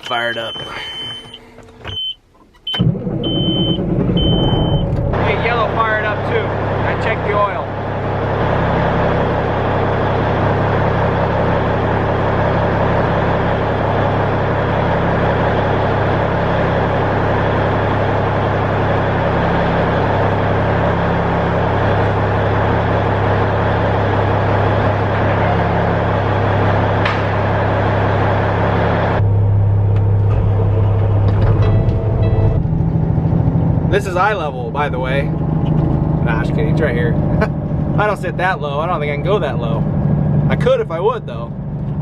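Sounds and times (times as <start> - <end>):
diesel truck engine running: 0.0 - 42.0.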